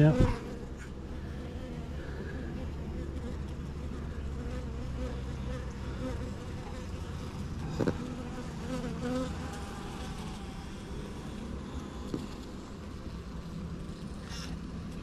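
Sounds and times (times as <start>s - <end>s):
honeybees buzzing: 0.0s - 14.7s.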